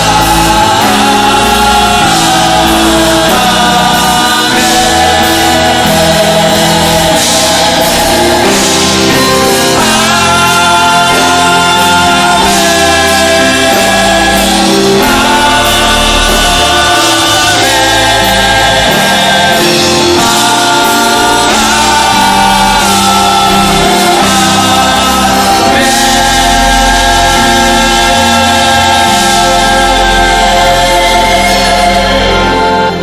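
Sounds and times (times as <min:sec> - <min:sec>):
choir singing gospel: 0:00.0 - 0:33.0
low held bass notes: 0:00.0 - 0:33.0.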